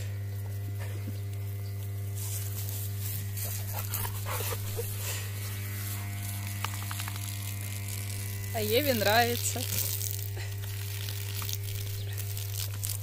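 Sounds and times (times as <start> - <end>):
low electric hum: 0.0 - 13.0
water hissing from garden hose: 2.1 - 13.0.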